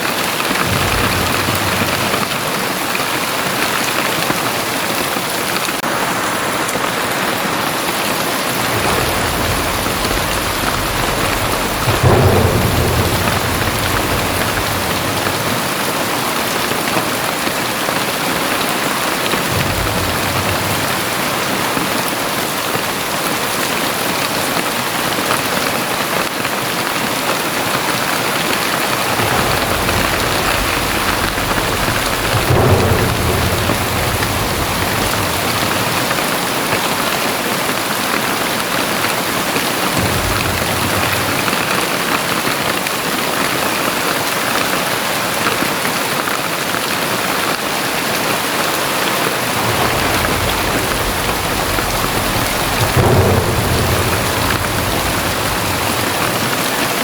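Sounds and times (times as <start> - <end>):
heavy rain pouring: 0.0 - 57.0
rolling thunder: 0.0 - 57.0.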